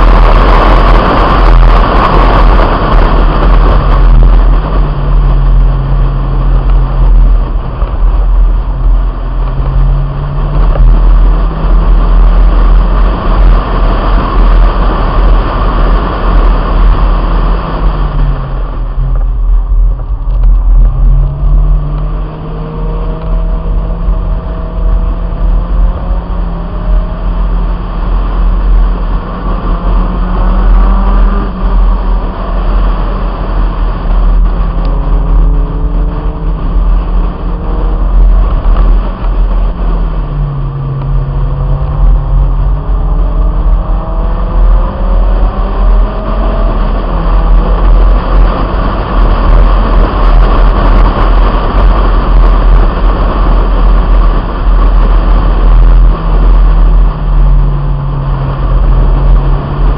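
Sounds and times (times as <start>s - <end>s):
car engine revving hard: 0.0s - 59.9s
wind rumble on microphone: 0.0s - 59.9s.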